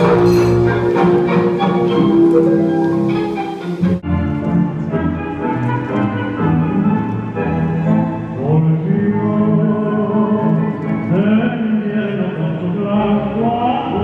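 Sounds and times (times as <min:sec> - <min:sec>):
tango music: 0:00.0 - 0:14.0.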